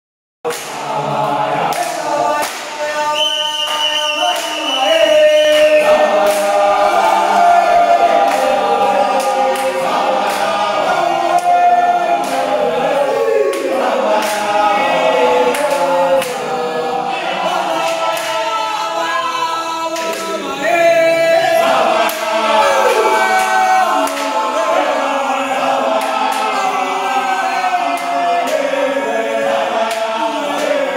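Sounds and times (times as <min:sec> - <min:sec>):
men singing in chorus: 0:00.5 - 0:30.9.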